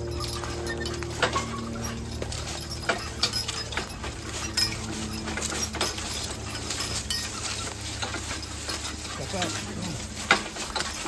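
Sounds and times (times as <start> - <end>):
harness hardware clinking: 0.0 - 11.0
horses' footfalls: 0.0 - 11.0
steady low hum: 0.0 - 11.0.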